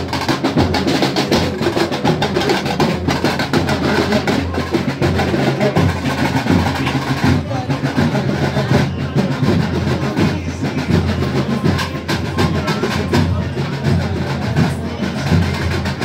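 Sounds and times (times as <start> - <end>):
crowd hubbub: 0.0 - 16.0
drum-led festival music: 0.0 - 16.0.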